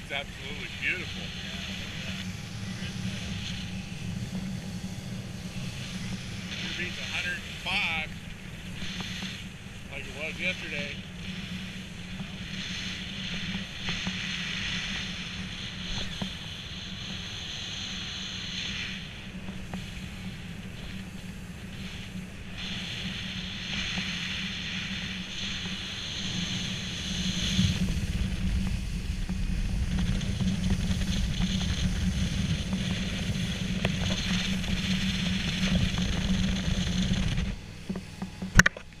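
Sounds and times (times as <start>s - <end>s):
motorboat engine humming: 0.0s - 39.0s
wind buffeting microphone: 0.0s - 39.0s.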